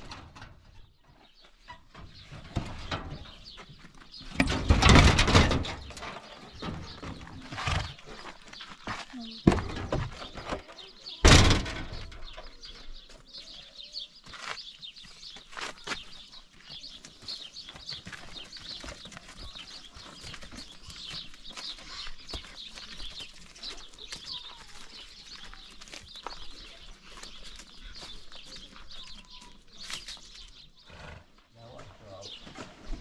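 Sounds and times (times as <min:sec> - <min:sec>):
small birds chirping: 0:00.1 - 0:33.0.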